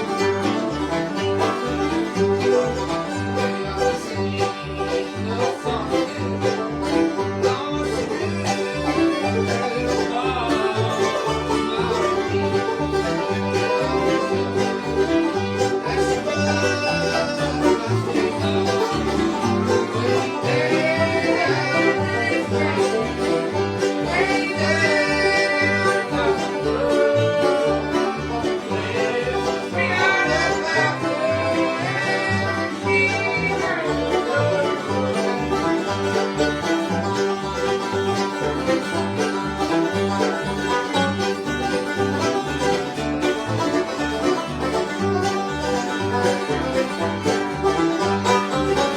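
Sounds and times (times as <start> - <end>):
banjo picking: 0.0 - 48.9
bass: 0.0 - 48.9
fiddle melody: 0.0 - 48.9
guitar: 0.0 - 48.9.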